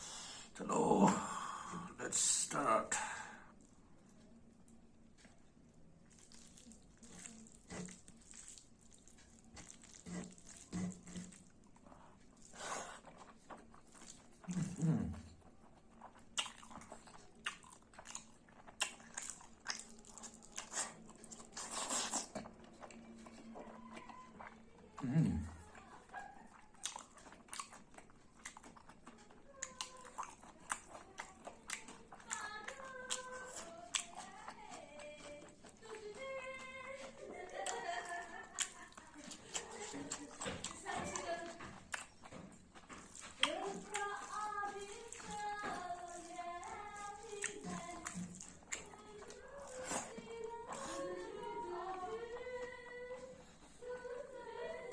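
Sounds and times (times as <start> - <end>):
chewing: 3.5 - 54.9.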